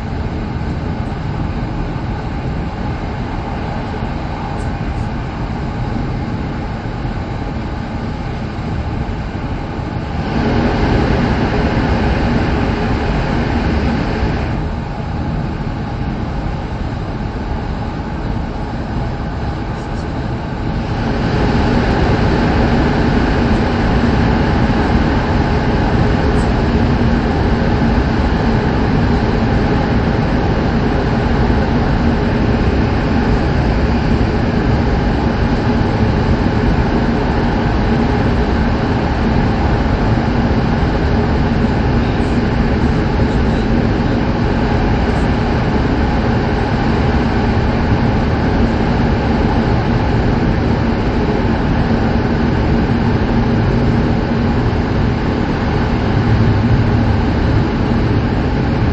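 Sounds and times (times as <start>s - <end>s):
constant low hum: 0.0s - 58.9s
train cabin rumble: 0.0s - 58.9s.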